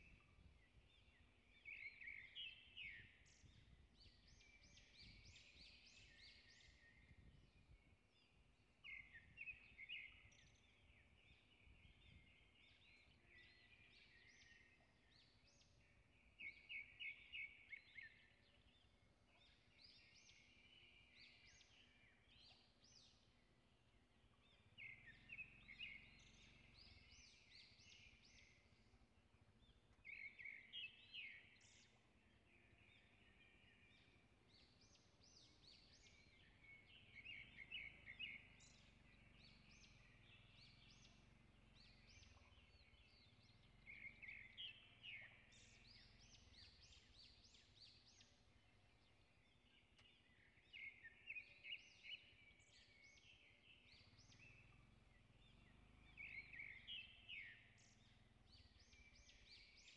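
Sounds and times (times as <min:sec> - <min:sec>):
bird chirping: 0:00.0 - 0:59.9.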